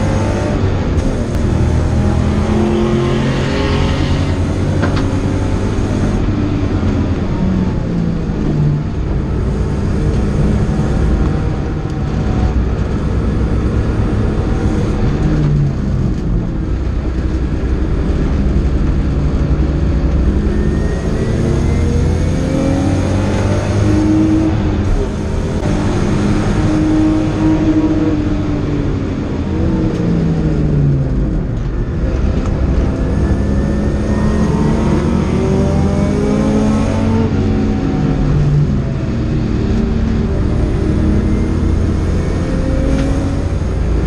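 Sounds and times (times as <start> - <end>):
car engine revving through gears: 0.0 - 44.0
road and wind noise: 0.0 - 44.0.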